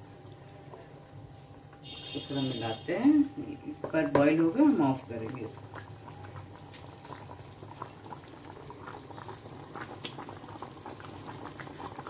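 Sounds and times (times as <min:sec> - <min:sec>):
stew bubbling in a pan: 0:00.0 - 0:12.0.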